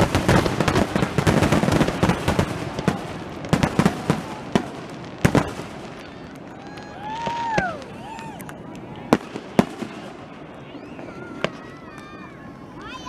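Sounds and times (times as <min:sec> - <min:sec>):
firework bang: 0:00.0 - 0:08.4, 0:09.1 - 0:12.2
fireworks crackling: 0:00.0 - 0:13.0.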